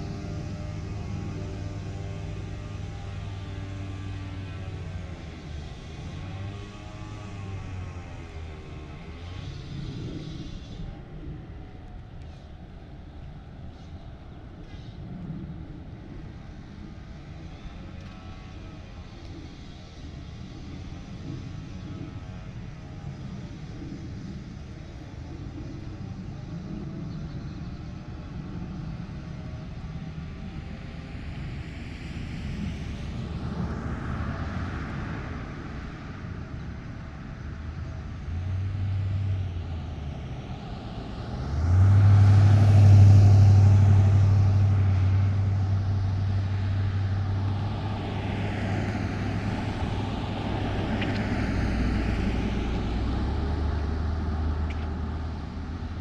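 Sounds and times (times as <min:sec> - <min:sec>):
motor vehicles passing: 0:00.0 - 0:56.0.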